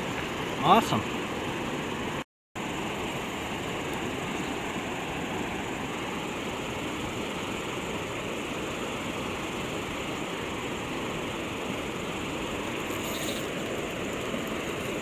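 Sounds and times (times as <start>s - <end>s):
water rushing over dam: 0.0s - 15.0s.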